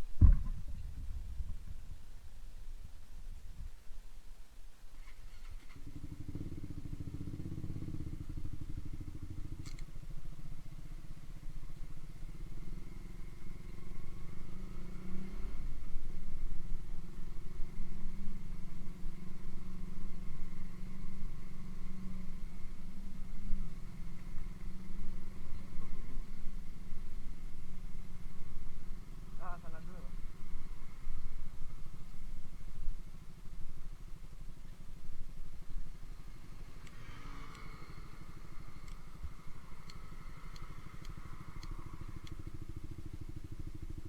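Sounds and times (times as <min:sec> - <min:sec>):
motorcycle engine running: 0:05.0 - 0:44.0.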